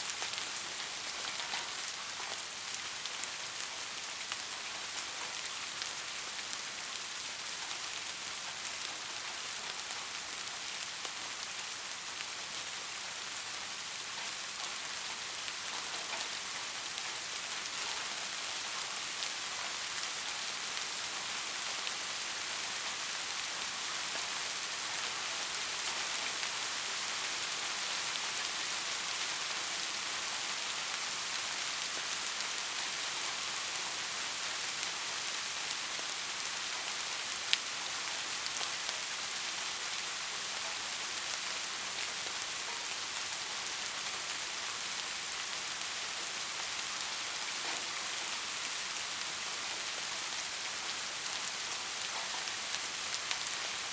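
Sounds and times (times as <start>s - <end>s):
soft rain pattering: 0.0s - 53.9s.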